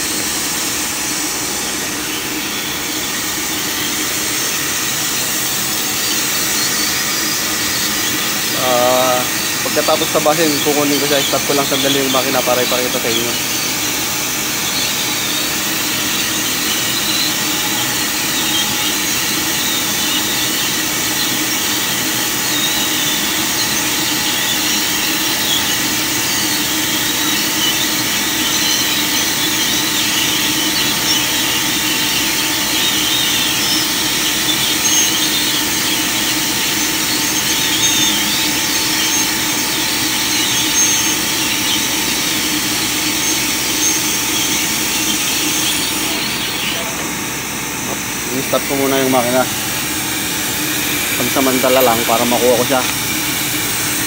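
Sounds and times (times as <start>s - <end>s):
laser cutter hiss: 0.0s - 54.0s
machine hum: 0.0s - 54.0s.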